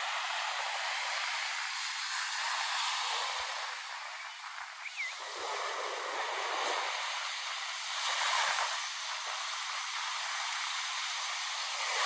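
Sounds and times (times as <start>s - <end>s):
small waves breaking on shore: 0.0s - 12.0s.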